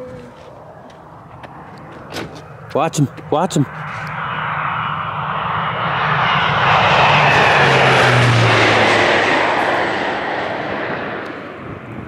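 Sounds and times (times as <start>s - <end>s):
propeller plane passing low: 0.0s - 12.0s.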